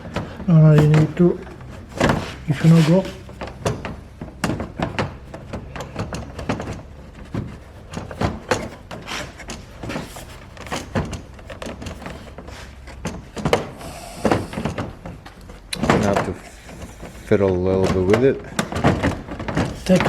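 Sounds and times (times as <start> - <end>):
hard plastic clicks and scrapes: 0.0 - 20.0.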